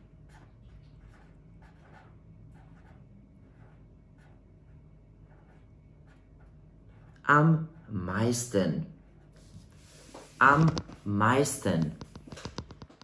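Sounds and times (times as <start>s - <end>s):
pen scratching handwriting: 0.0s - 7.3s, 9.4s - 13.0s
low room hum: 0.0s - 13.0s.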